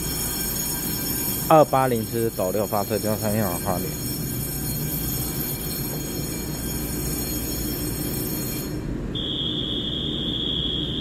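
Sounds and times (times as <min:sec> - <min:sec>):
train low rumble: 0:00.0 - 0:09.2
high thin whines: 0:00.0 - 0:11.0
high warning tone: 0:00.0 - 0:11.0.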